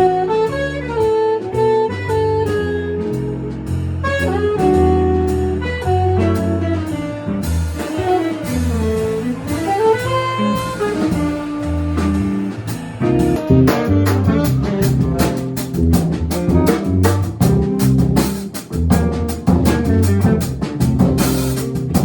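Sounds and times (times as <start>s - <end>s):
drums: 0.0s - 22.0s
walking bass: 0.0s - 22.0s.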